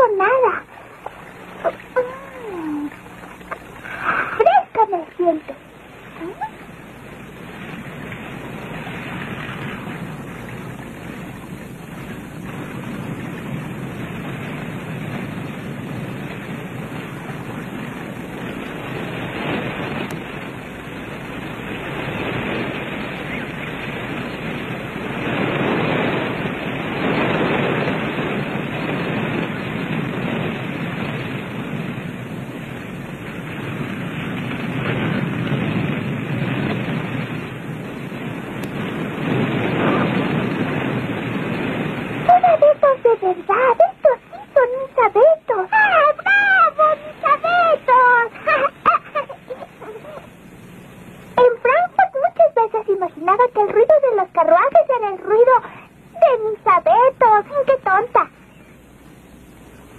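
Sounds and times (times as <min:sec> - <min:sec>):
wind rushing through trees: 0:00.0 - 0:59.9.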